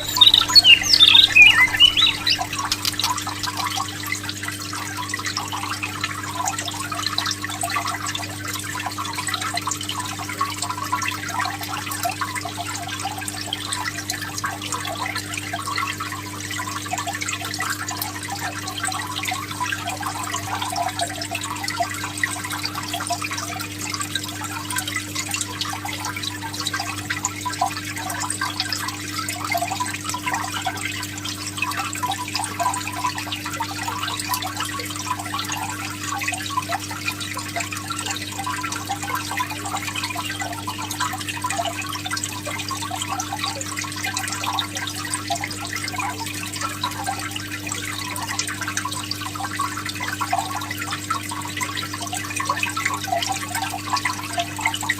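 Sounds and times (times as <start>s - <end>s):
water trickling and bubbling: 0.0s - 54.9s.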